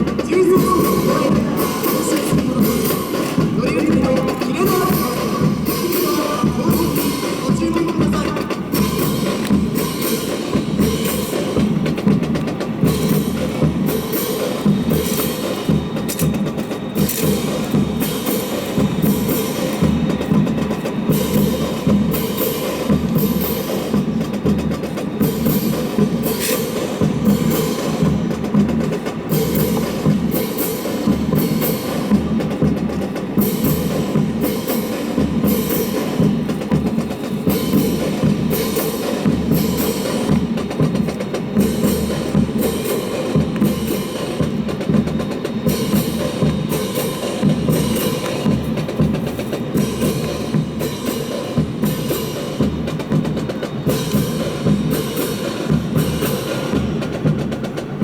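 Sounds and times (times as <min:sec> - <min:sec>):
drum percussion steady rhythm: 0:00.0 - 0:58.0.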